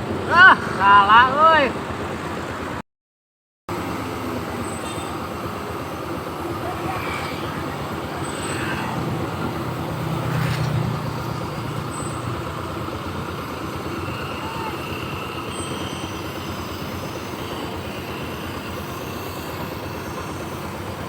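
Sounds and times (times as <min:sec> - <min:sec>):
bus engine droning: 0:00.0 - 0:02.8, 0:03.7 - 0:21.0
road traffic: 0:00.0 - 0:02.8, 0:03.7 - 0:21.0.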